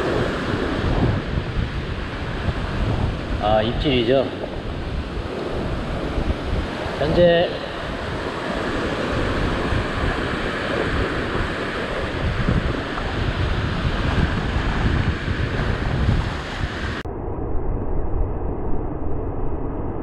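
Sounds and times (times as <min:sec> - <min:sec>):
surf breaking over rocks: 0:00.0 - 0:17.0
wind buffeting microphone: 0:00.0 - 0:19.3.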